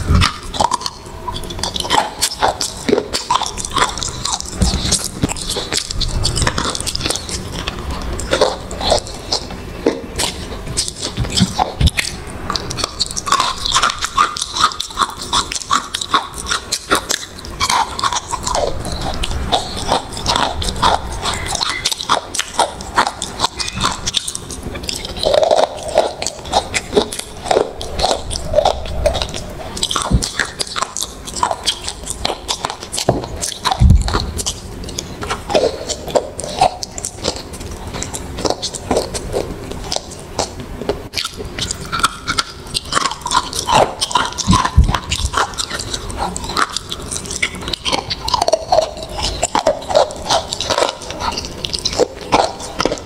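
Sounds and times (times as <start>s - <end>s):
crunchy chewing: 0.0s - 53.0s.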